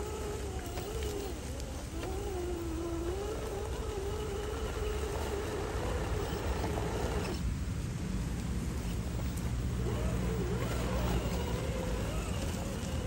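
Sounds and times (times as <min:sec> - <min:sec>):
electric motor whining: 0:00.0 - 0:07.4, 0:09.7 - 0:13.0.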